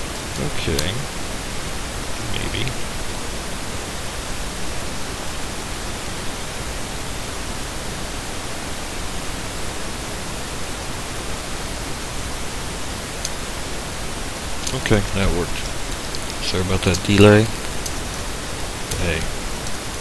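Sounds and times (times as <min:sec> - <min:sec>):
recording hiss: 0:00.0 - 0:20.0.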